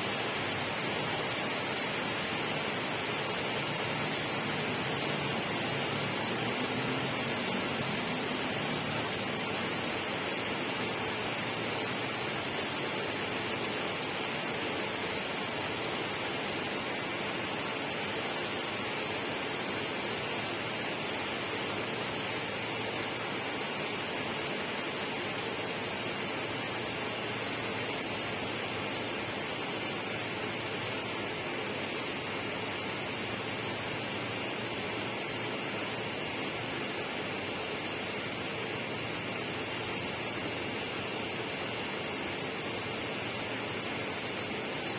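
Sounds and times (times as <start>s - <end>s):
steady rushing noise: 0.0s - 44.9s.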